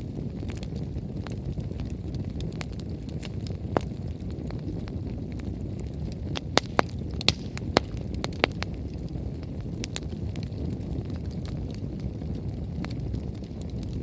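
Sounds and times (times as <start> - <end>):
burning logs popping and crackling: 0.0 - 14.0
low rumble of bonfire flames: 0.0 - 14.0.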